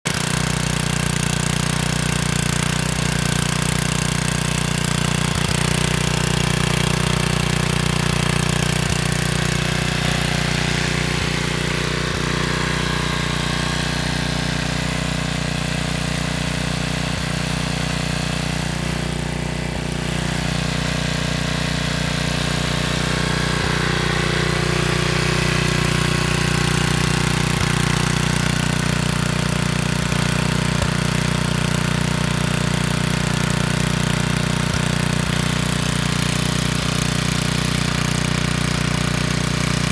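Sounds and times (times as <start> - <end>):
generator engine running: 0.1 - 39.9.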